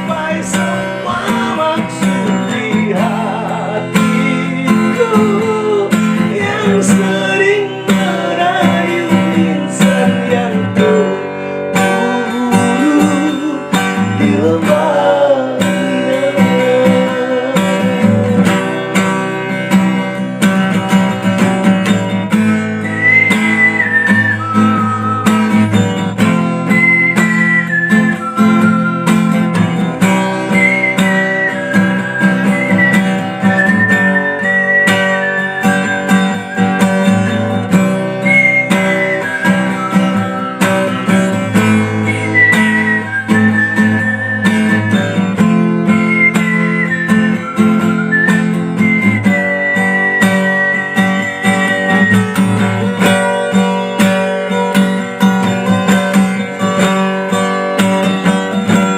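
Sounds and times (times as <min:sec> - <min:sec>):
lead guitar with bent notes: 0:00.0 - 0:58.9
strummed acoustic guitar chords: 0:00.0 - 0:58.9.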